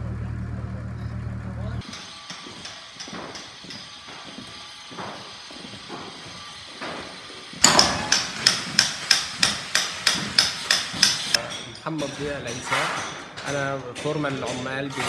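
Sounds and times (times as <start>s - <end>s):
ringing hammer blows: 1.8s - 15.0s.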